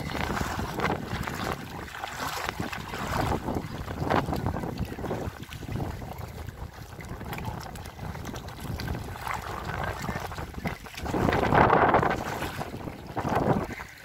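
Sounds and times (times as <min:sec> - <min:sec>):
small waves lapping: 0:00.0 - 0:14.0
wind buffeting microphone: 0:00.0 - 0:14.0.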